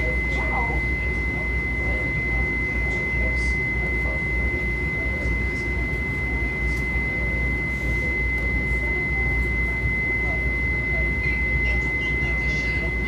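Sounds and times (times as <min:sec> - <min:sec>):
steady high-pitched tone: 0:00.0 - 0:13.0.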